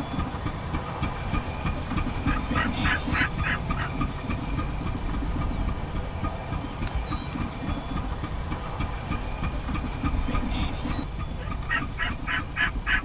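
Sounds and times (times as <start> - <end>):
pump engine thumping: 0.0 - 13.0.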